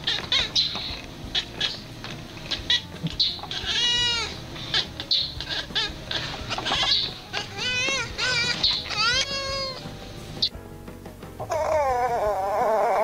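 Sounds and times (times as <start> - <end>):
cat chirping and meowing: 0.0 - 10.5, 11.4 - 13.0.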